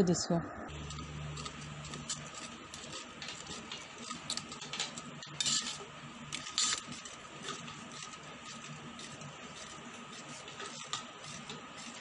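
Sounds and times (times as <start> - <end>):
spoon scraping a metal pot: 0.7 - 12.0.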